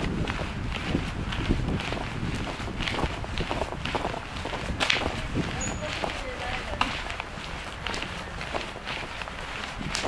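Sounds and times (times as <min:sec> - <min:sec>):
footsteps walking: 0:00.0 - 0:10.0
low microphone rumble: 0:00.0 - 0:10.0.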